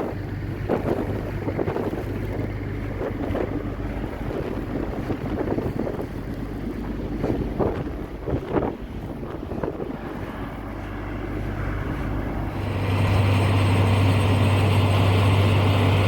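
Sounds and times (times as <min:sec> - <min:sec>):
low vehicle hum: 0:00.0 - 0:16.0
wind gusting against microphone: 0:00.0 - 0:16.0.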